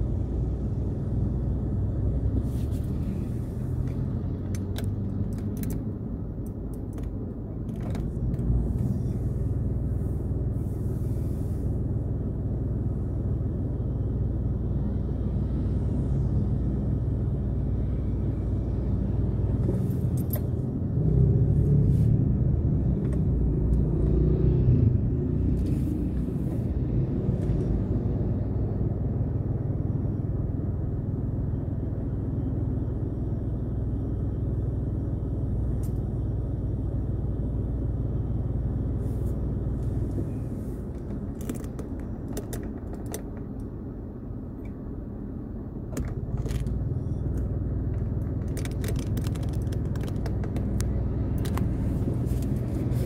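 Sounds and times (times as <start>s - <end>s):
engine and road rumble: 0.0s - 53.0s.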